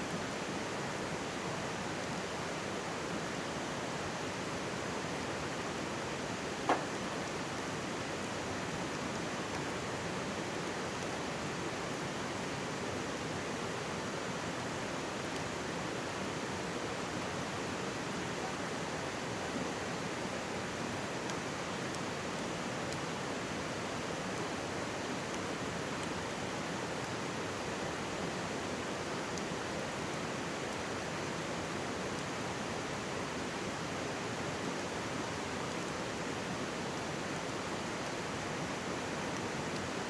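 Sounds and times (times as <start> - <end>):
stream rushing: 0.0 - 40.0.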